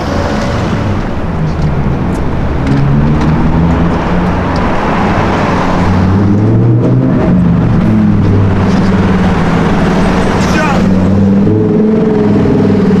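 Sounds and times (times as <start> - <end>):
car engine running loudly: 0.0 - 13.0
road noise: 0.0 - 13.0.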